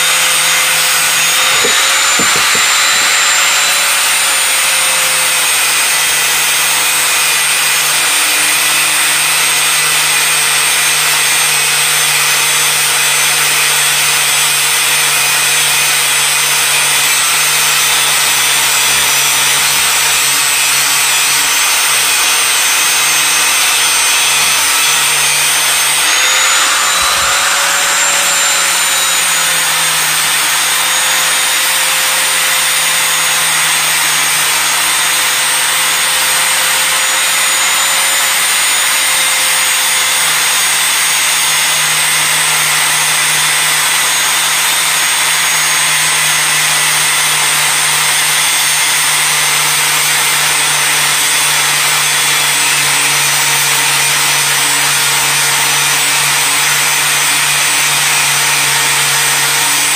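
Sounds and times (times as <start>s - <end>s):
angle grinder grinding metal: 0.0s - 59.9s.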